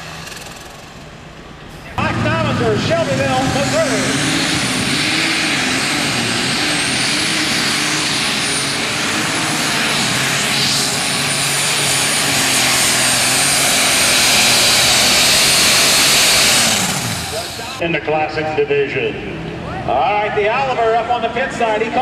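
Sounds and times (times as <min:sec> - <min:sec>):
tractor engine at full power: 0:00.0 - 0:18.3.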